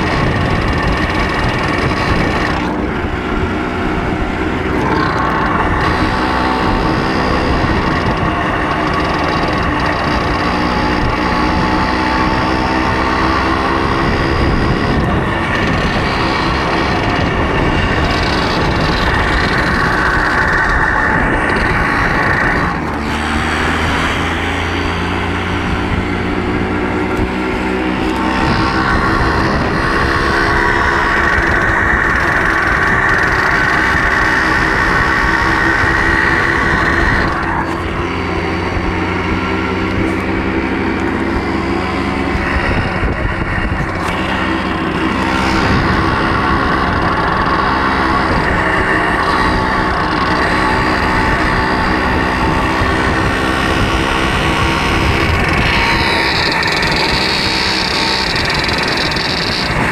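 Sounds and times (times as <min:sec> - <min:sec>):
motorcycle engine drone: 0:00.0 - 0:59.9
wind rushing over microphone: 0:00.0 - 0:59.9.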